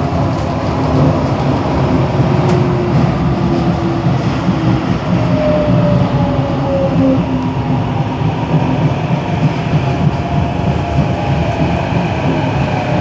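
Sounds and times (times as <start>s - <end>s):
underground train rumble: 0.0s - 13.0s.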